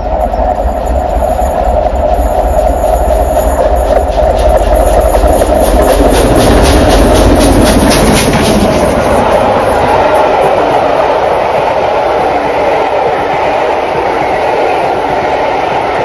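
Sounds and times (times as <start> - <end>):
coaches rumbling and clattering: 0.0 - 16.0
steam locomotive beat: 0.0 - 16.0.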